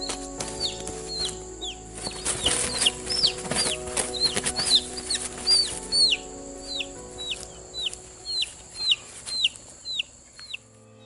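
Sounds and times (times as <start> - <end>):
chick peeping: 0.0 - 10.6
faint background music: 0.0 - 11.0.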